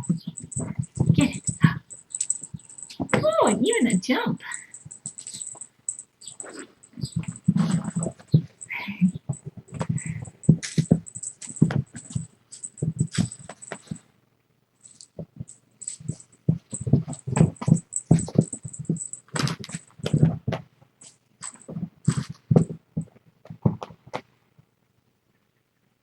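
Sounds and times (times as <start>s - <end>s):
kittens scampering on floor: 0.0s - 14.1s, 14.8s - 24.3s.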